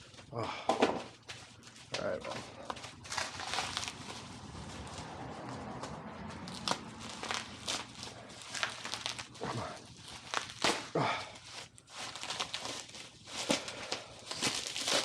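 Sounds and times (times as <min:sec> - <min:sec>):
packaging rustling and crinkling: 0:00.0 - 0:15.0
wrapping tearing: 0:01.2 - 0:15.0.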